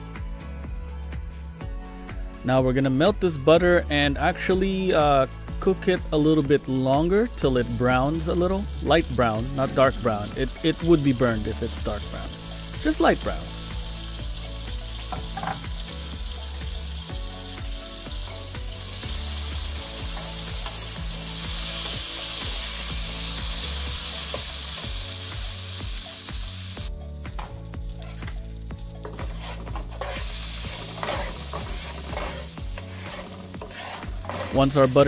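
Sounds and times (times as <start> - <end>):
butter sizzling in a frying pan: 4.4 - 35.0.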